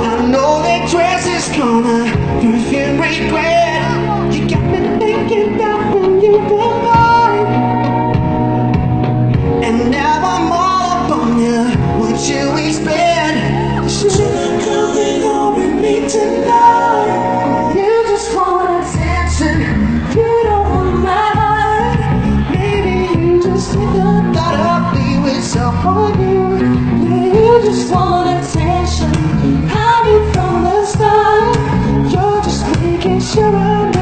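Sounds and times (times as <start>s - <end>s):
pop song over sound system: 0.0s - 34.0s.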